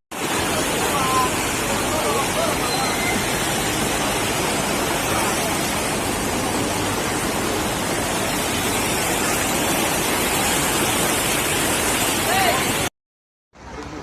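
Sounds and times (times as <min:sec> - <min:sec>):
floodwater rushing: 0:00.1 - 0:12.9.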